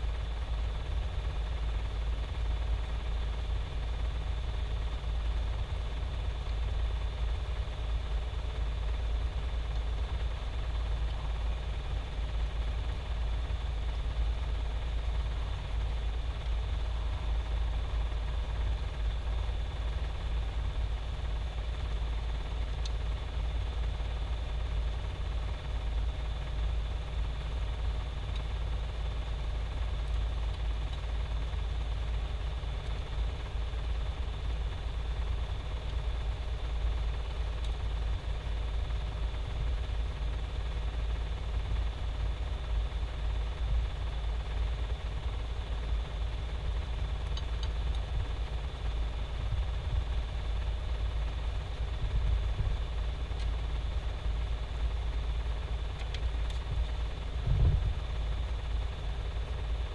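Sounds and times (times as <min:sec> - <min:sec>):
faint high whine: 0:00.0 - 0:59.9
low machine hum: 0:00.0 - 0:59.9.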